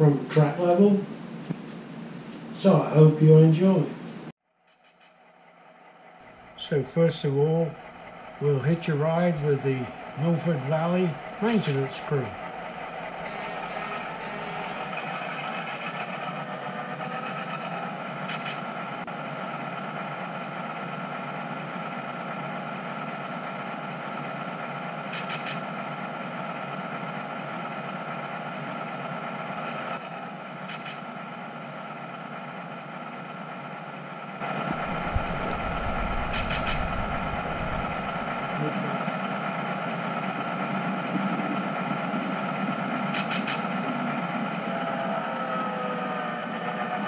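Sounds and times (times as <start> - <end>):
model train motor humming: 4.8 - 47.0
deep rumble of train: 4.9 - 47.0.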